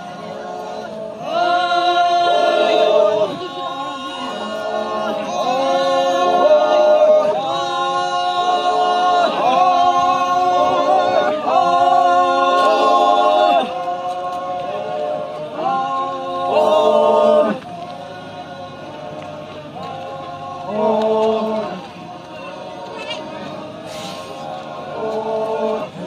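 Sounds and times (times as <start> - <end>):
group of voices chanting: 0.0 - 26.0.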